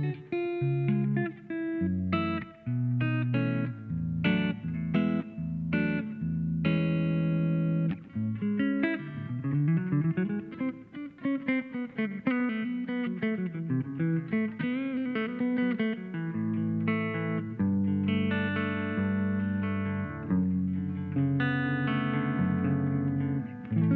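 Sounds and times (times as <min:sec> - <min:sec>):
electric guitar playing: 0:00.0 - 0:23.9.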